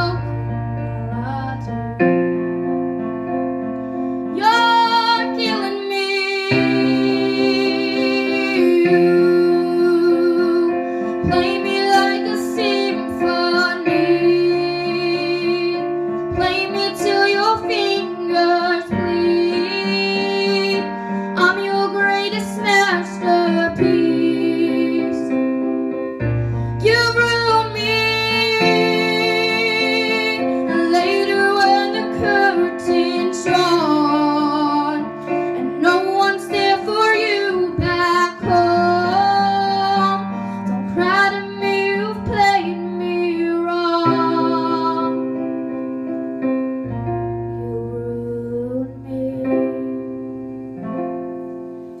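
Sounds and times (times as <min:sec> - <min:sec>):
sustained piano chords: 0:00.0 - 0:52.0
woman singing with vibrato: 0:04.3 - 0:25.4, 0:26.8 - 0:45.3, 0:47.5 - 0:50.1.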